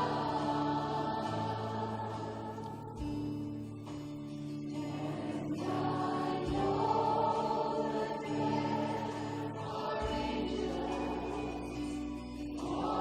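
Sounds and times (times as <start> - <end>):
choir-like singing: 0.0 - 13.0.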